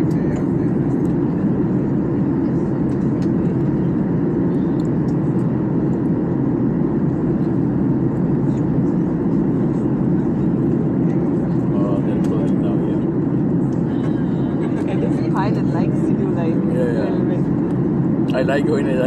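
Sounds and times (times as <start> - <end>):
airliner cabin engine rush: 0.0 - 19.0.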